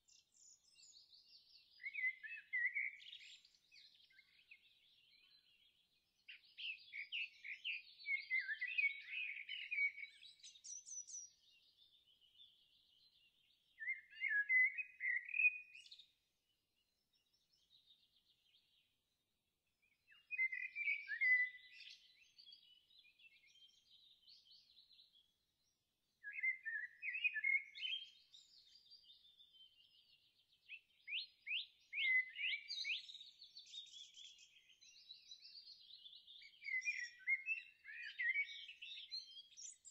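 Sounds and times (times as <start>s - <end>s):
songbird chirping and warbling: 0.0s - 39.9s.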